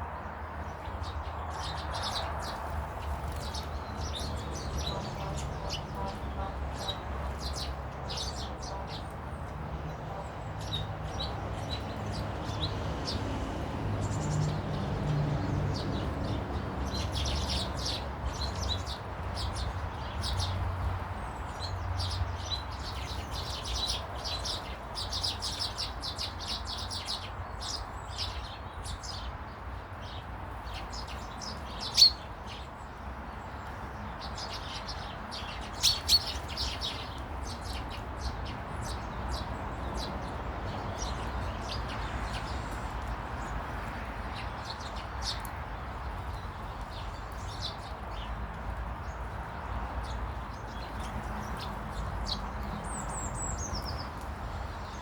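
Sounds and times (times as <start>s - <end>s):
small birds chirping: 0.6s - 55.0s.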